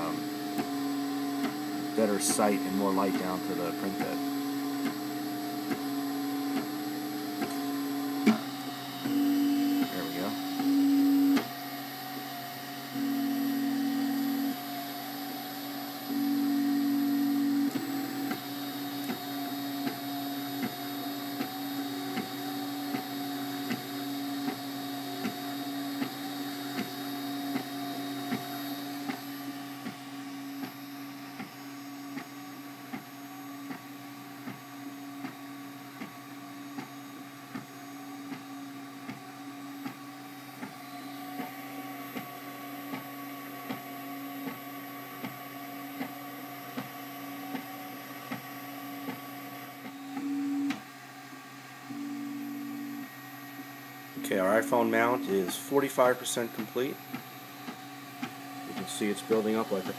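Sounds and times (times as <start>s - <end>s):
printer motors and fan humming: 0.0s - 59.9s.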